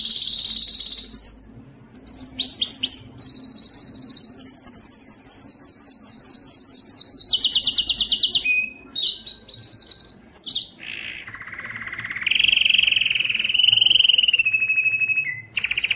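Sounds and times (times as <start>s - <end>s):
canary singing trills: 0.0s - 15.9s.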